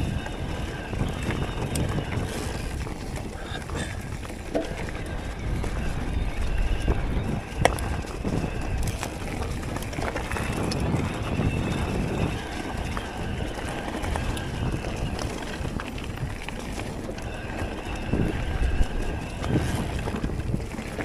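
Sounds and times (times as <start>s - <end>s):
bike rattling: 0.0s - 21.0s
bike tyres rolling on dirt: 0.0s - 21.0s
wind buffeting microphone: 0.0s - 21.0s.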